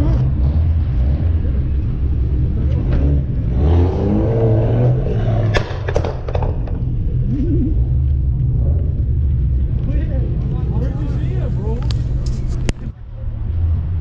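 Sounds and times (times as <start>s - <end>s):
car engines idling: 0.0s - 14.0s.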